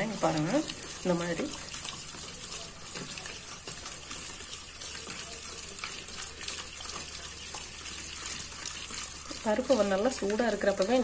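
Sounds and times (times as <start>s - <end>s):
wet sloshing and squelching: 0.0s - 11.0s.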